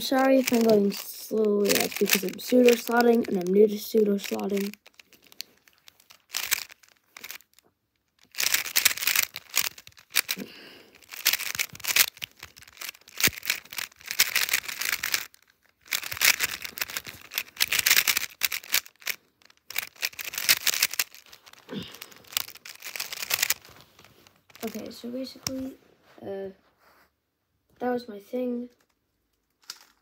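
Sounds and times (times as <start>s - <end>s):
puzzle cube layers clicking: 0.0s - 25.8s, 28.7s - 30.0s.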